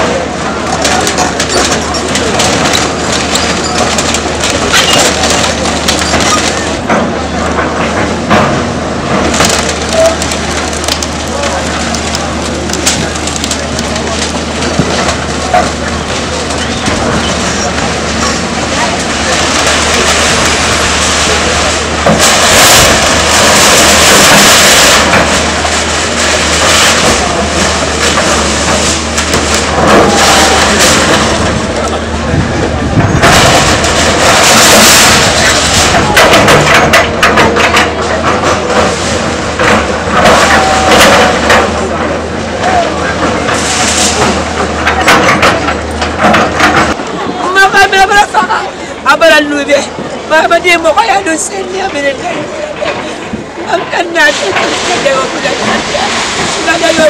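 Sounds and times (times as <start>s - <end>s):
wood and sheet metal crushing: 0.0s - 48.6s, 49.2s - 57.0s
excavator engine running: 0.0s - 57.0s.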